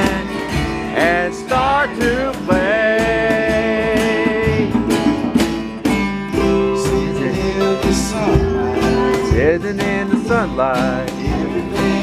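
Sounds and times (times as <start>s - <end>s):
song with guitar and beat: 0.0s - 12.0s.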